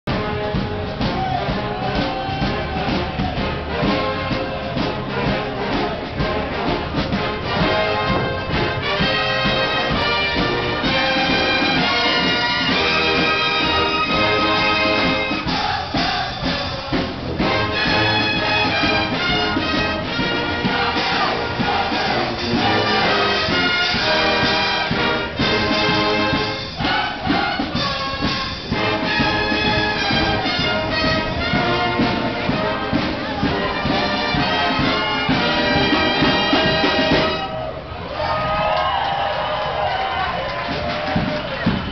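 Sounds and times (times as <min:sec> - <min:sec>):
marching brass band playing: 0:00.1 - 0:41.9.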